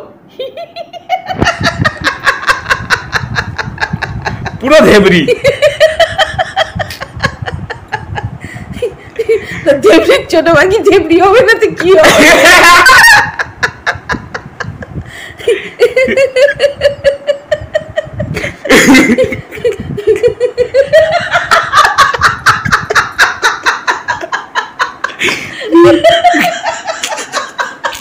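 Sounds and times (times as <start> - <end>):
woman laughing hard: 0.4 - 4.6, 5.3 - 10.2, 11.7 - 28.0.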